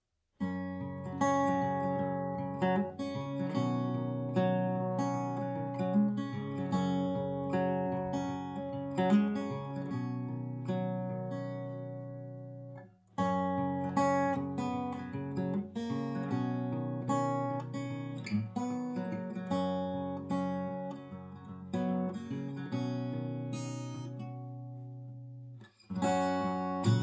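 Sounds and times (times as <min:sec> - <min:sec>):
acoustic guitar playing chords: 0:00.4 - 0:27.0.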